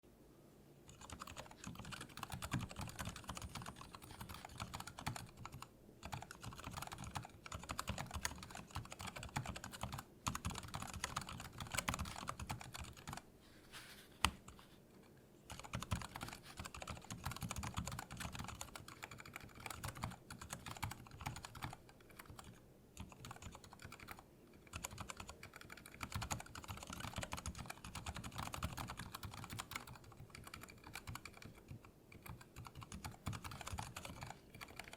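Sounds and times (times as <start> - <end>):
soft mechanical keyboard typing: 0.9 - 13.3, 14.2 - 34.9.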